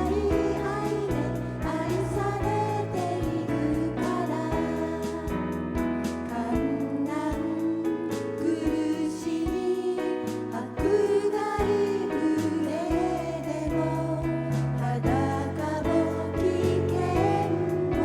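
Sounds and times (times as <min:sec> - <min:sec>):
congregation singing a hymn: 0:00.0 - 0:05.4, 0:06.4 - 0:18.0.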